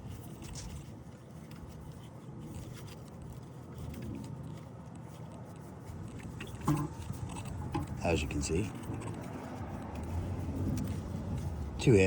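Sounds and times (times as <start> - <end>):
faint scraping and handling: 0.0 - 12.0.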